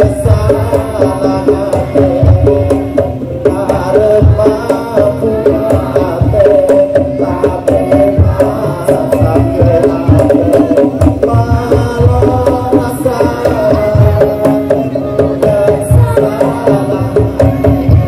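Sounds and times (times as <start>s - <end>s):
fast loud drumming: 0.0s - 18.0s
melody over drums: 0.0s - 18.0s.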